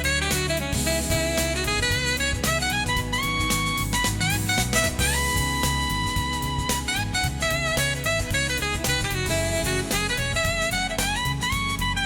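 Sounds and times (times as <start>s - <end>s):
instrumental music with bass and drums: 0.0s - 12.0s.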